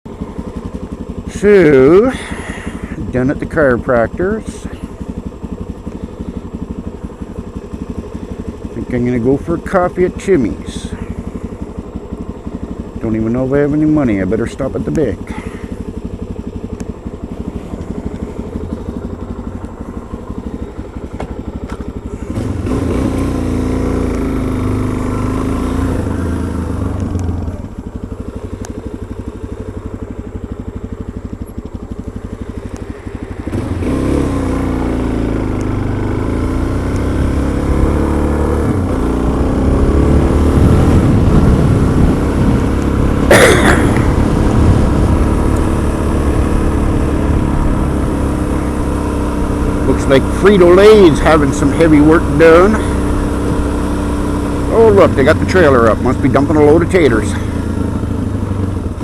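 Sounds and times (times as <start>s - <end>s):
motorcycle engine idling and accelerating: 0.0s - 59.0s.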